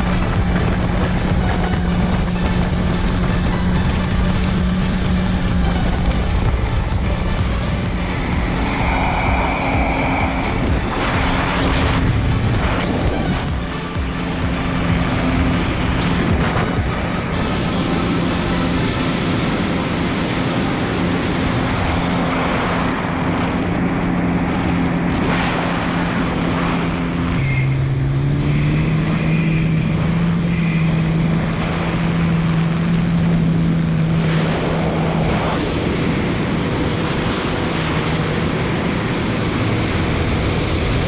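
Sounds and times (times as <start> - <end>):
jet ski engine running: 0.0 - 41.0
water rushing: 0.0 - 41.0
wind: 0.0 - 41.0.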